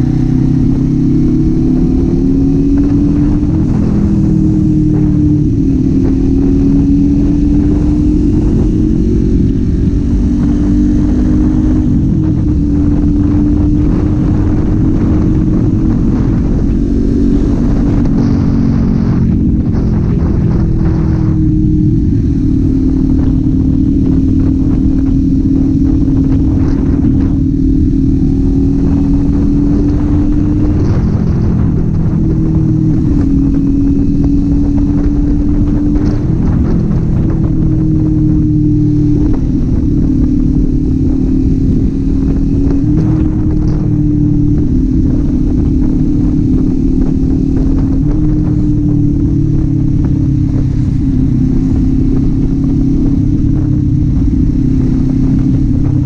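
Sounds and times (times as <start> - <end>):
motorcycle engine cruising: 0.0 - 56.0
steady rushing noise: 0.0 - 56.0.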